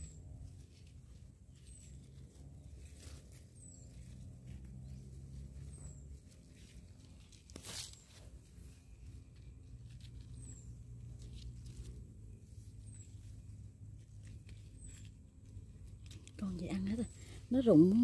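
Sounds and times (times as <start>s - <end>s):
leaves and stems rustling: 0.0s - 18.0s
small crackles: 0.0s - 18.0s.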